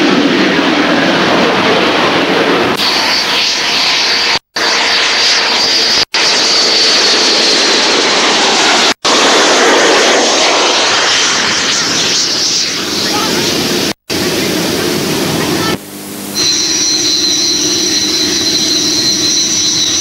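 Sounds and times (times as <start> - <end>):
jet engine rush with high whine: 0.0 - 20.0.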